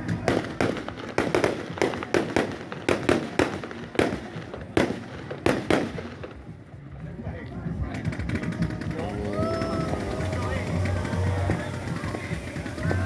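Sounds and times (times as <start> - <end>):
fireworks exploding: 0.0 - 6.5, 8.4 - 13.0.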